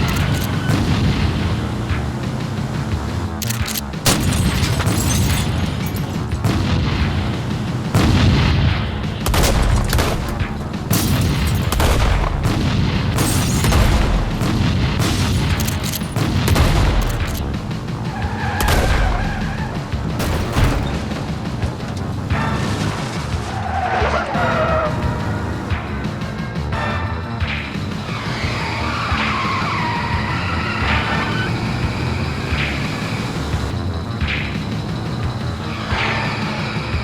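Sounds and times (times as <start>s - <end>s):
action film music: 0.0s - 37.0s.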